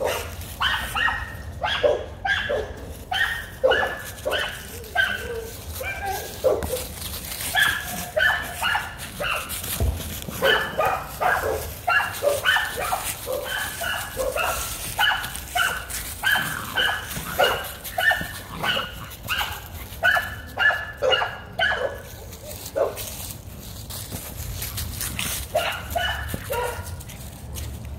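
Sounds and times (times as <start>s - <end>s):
puppy barking and yipping: 0.0s - 23.0s, 25.4s - 27.0s.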